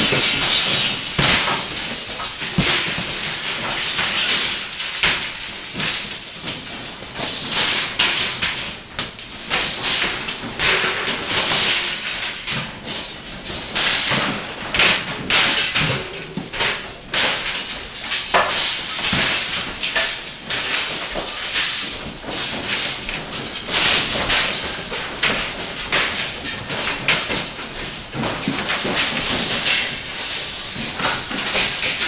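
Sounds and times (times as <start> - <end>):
metal rods rattling and clattering: 0.0 - 32.0.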